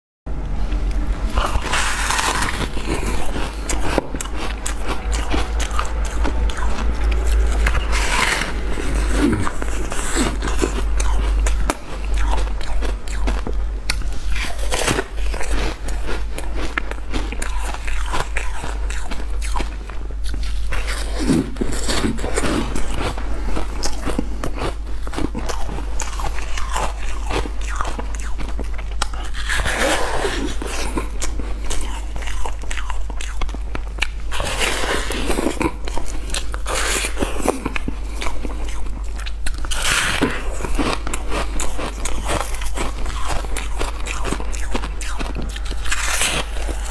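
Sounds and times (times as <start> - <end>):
steady low hum: 0.3 - 46.9
ice being crunched and chewed: 1.3 - 46.9.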